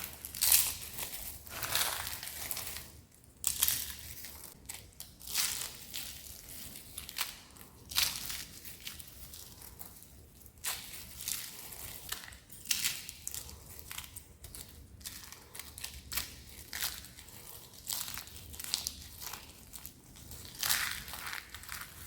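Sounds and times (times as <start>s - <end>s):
dry soap crackling crunches: 0.0s - 22.0s.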